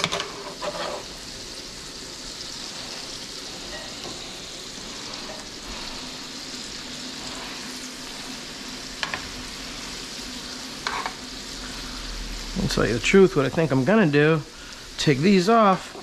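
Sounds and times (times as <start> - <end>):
fish sizzling in butter: 0.0 - 16.0.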